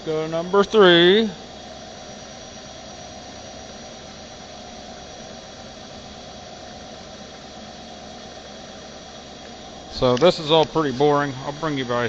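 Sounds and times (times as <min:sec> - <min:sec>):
milling machine whining: 0:00.0 - 0:12.0.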